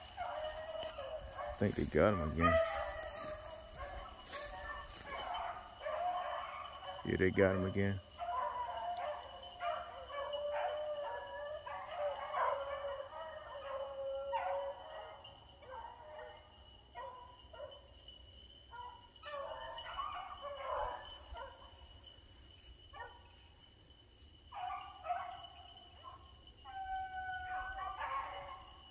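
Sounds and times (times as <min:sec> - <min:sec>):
dogs baying: 0:00.0 - 0:17.9, 0:18.7 - 0:23.6, 0:24.5 - 0:28.9.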